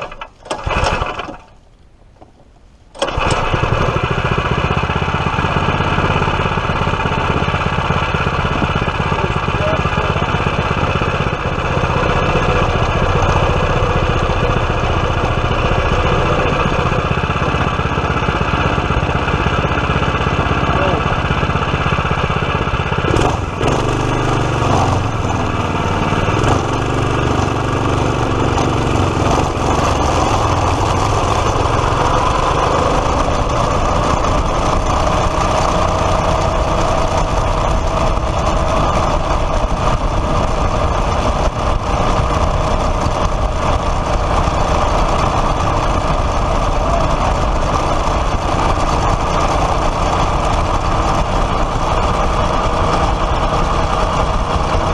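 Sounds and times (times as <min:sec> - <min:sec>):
small kart engine running: 0:00.0 - 0:01.6, 0:03.0 - 0:54.9.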